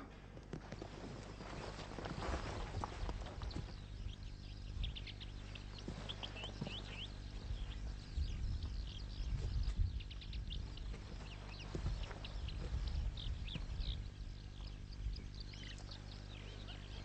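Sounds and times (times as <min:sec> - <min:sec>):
small birds chirping: 0:00.0 - 0:17.0
low rumble: 0:02.2 - 0:17.0.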